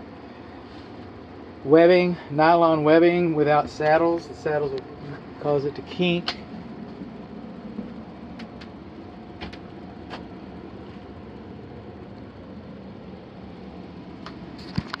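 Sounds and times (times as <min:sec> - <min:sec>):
air handler humming: 0:00.0 - 0:15.0.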